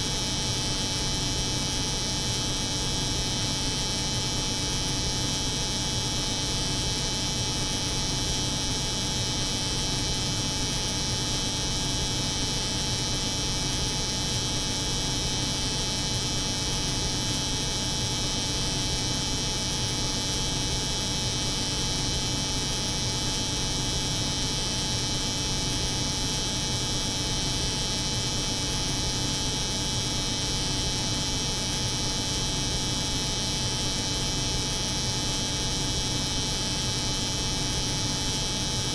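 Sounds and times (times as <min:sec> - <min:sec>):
refrigeration unit humming: 0:00.0 - 0:38.9.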